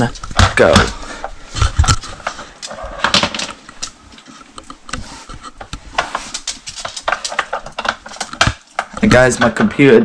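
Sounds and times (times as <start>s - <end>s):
hard objects knocking and clattering: 0.0s - 10.0s.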